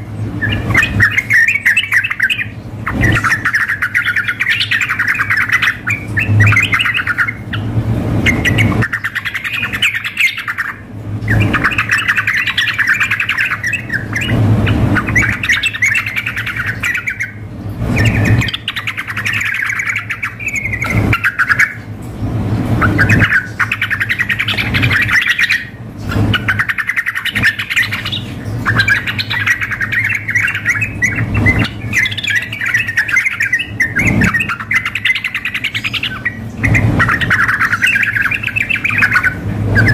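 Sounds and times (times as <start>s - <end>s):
bulbul singing: 0.0s - 39.9s
steady low hum: 0.0s - 39.9s.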